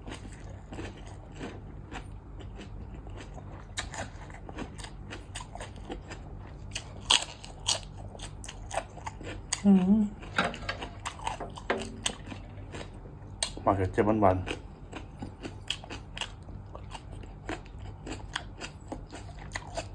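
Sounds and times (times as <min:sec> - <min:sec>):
crunching and chewing crisp food: 0:00.0 - 0:19.9.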